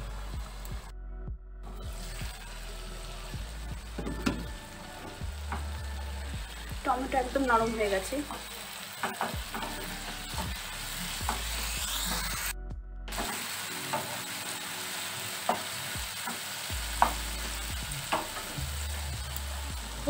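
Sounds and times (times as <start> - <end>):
vegetables frying in oil: 1.8 - 12.5, 13.1 - 20.0.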